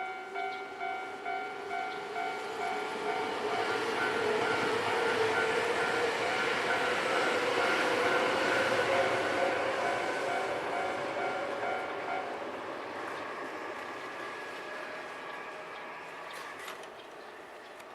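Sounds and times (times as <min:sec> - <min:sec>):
electric train passing: 0:00.0 - 0:17.9.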